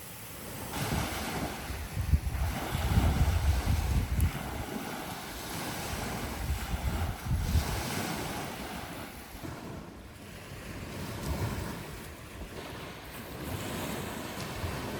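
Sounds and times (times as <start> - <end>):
waves washing on beach: 0.0 - 14.9
wind on microphone: 0.0 - 14.9.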